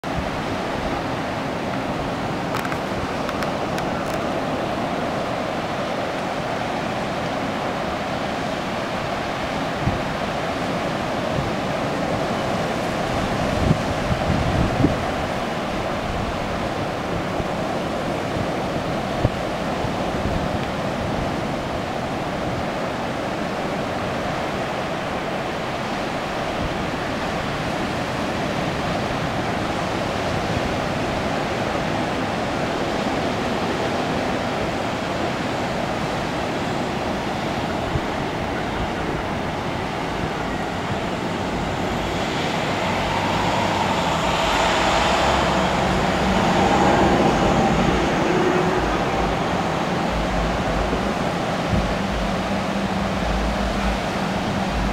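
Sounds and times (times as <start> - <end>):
ocean surf breaking: 0.0 - 54.9
wind gusts on microphone: 0.0 - 54.9.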